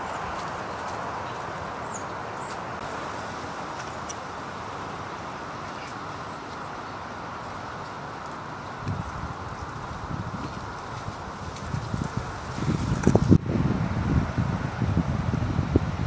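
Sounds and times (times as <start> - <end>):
steady outdoor rush: 0.0 - 16.0.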